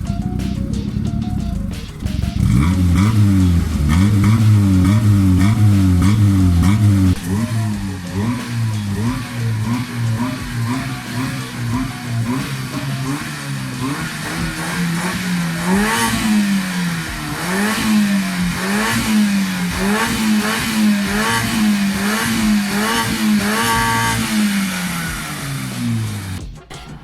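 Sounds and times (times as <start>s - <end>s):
car engine revving: 0.0s - 26.5s.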